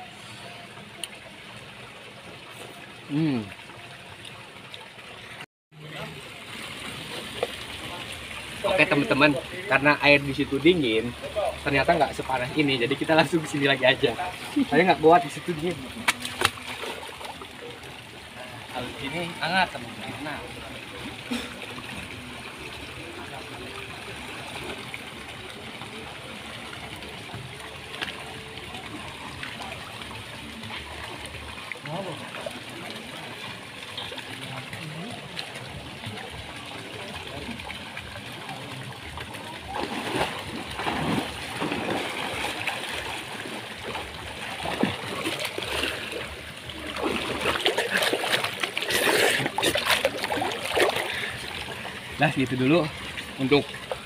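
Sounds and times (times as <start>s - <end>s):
swimmer stirring water: 0.0s - 54.0s
water pouring into pool: 0.0s - 54.0s.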